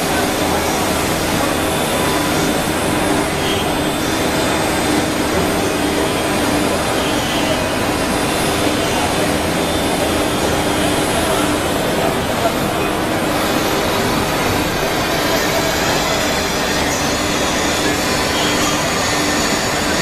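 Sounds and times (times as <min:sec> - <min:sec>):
wood router running: 0:00.0 - 0:20.0.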